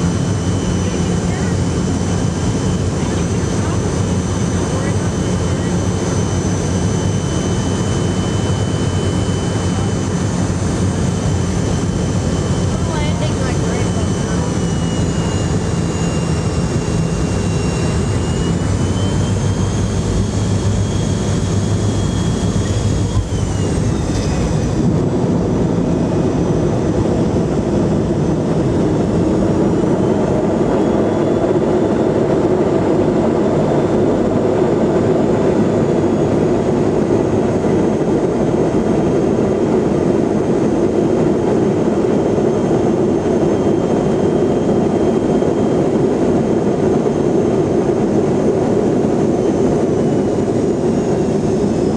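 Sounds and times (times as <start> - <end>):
jet engines roaring with whine: 0.0 - 51.9.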